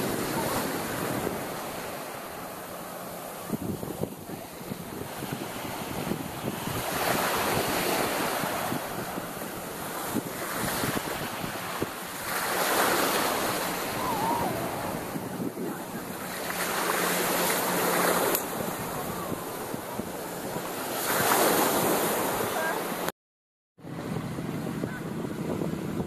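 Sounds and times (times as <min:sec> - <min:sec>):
wind on microphone: 0:00.0 - 0:22.7, 0:23.8 - 0:26.0
surf washing onto sand: 0:00.0 - 0:23.1.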